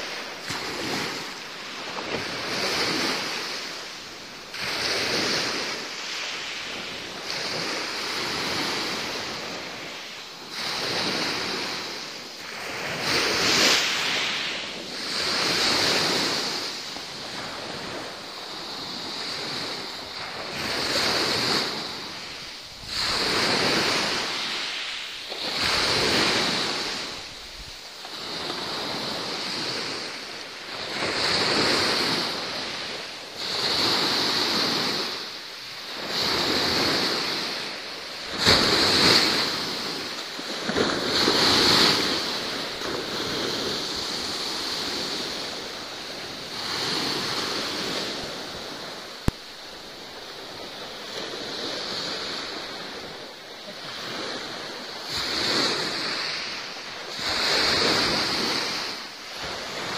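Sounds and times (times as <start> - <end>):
sea waves washing in: 0.0 - 59.9.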